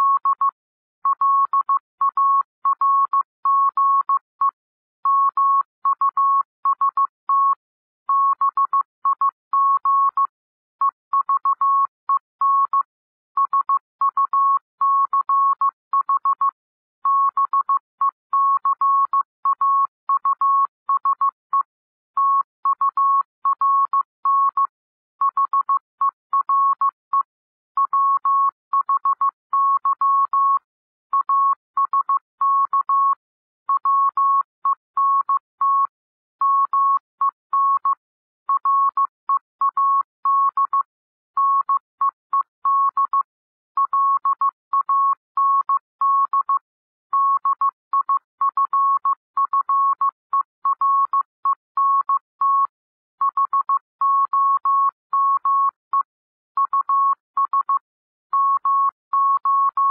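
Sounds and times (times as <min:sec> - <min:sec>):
morse code beeps: 0:00.0 - 0:59.9.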